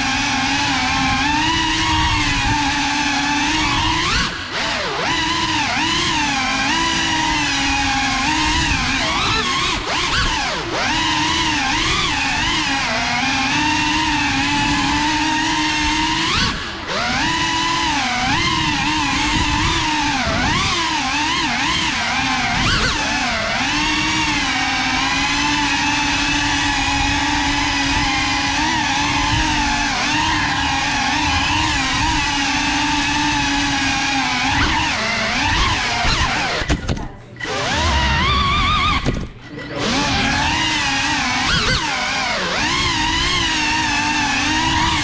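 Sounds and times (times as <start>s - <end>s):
drone motors whining: 0.0s - 45.0s.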